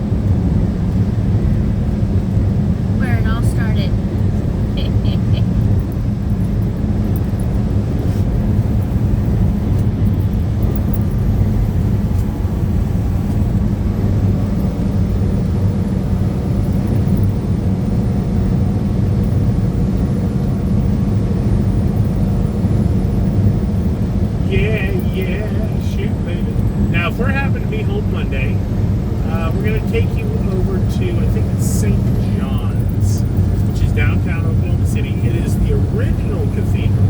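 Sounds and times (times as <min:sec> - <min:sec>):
truck road and engine drone: 0:00.0 - 0:37.0.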